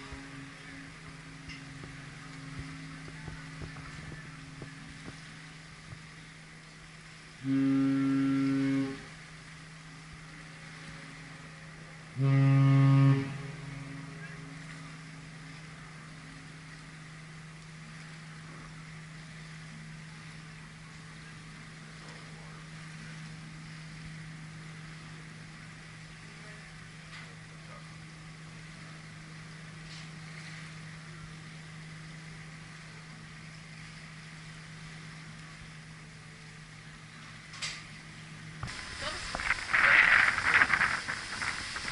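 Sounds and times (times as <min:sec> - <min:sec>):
deep ship horn blast: 0:00.0 - 0:06.2, 0:07.0 - 0:35.2
steady low hum: 0:00.0 - 0:41.9
wind and sea hiss: 0:00.0 - 0:41.9.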